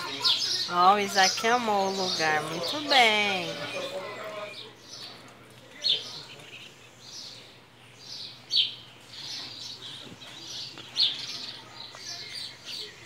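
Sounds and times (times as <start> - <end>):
small birds chirping and twittering: 0.0 - 13.0.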